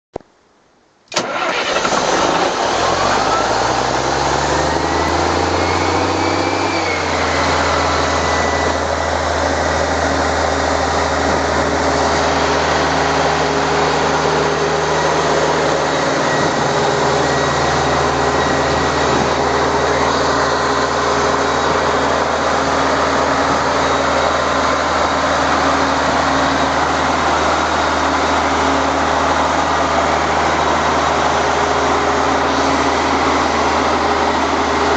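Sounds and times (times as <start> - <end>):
diesel engine starting and running: 1.1 - 34.9
rising whine: 1.2 - 34.9.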